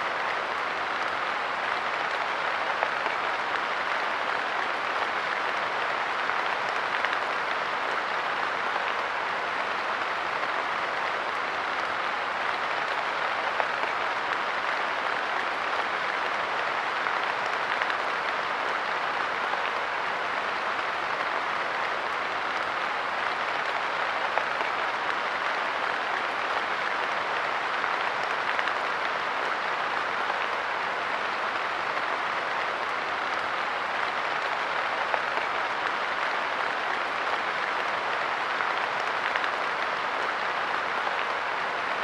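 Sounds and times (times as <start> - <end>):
light rain pattering: 0.0 - 42.0.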